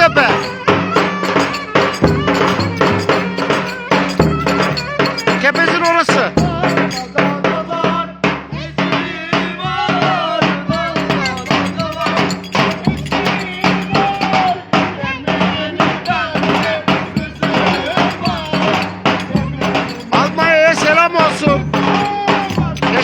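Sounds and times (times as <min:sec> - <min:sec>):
percussion beat: 0:00.0 - 0:07.5, 0:10.7 - 0:15.0, 0:15.6 - 0:23.0.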